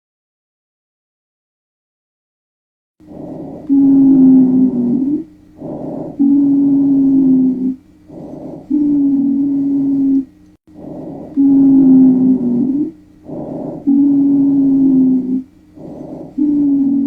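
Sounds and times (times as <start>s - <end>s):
low-pitched wheeze: 3.0s - 17.0s
lung breath sounds: 3.0s - 17.0s.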